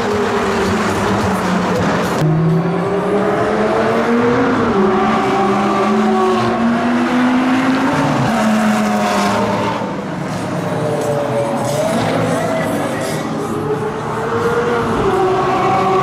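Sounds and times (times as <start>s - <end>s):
supercar engines at full throttle: 0.0s - 16.0s.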